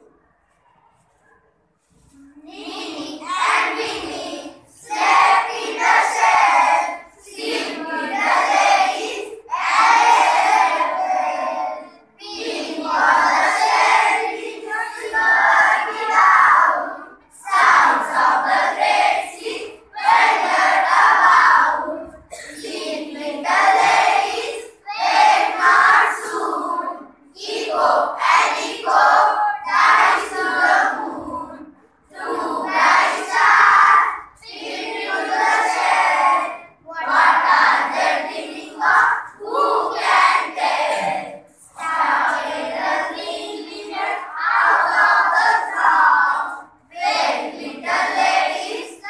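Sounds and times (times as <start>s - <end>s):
children chanting in unison: 2.3s - 49.0s.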